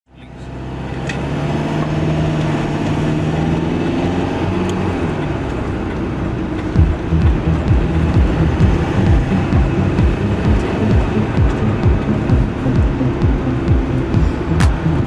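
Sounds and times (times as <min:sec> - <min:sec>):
car engine and road noise: 0:00.1 - 0:15.0.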